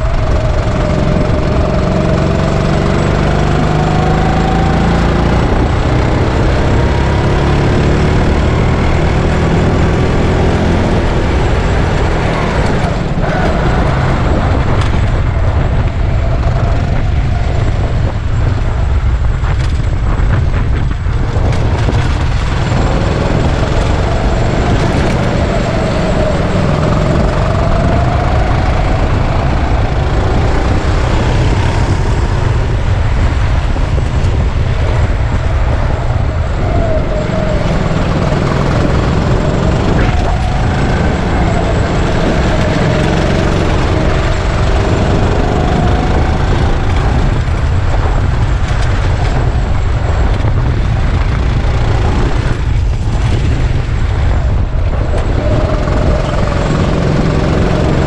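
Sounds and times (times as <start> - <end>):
go-kart engine accelerating: 0.0 - 58.0
heavy low rumble: 0.0 - 58.0.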